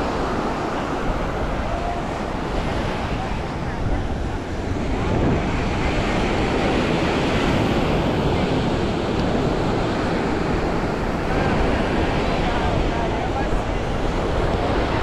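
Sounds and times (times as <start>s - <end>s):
surf washing onto beach: 0.0s - 15.0s
wind rumbling on microphone: 0.0s - 15.0s.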